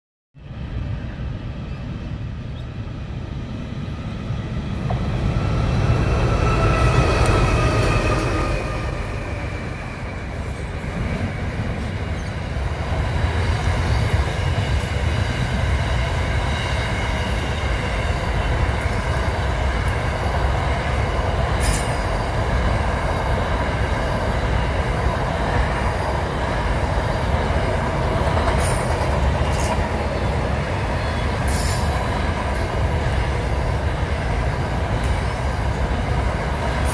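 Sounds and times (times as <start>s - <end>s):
train wheels rumbling on rail: 0.4s - 36.9s.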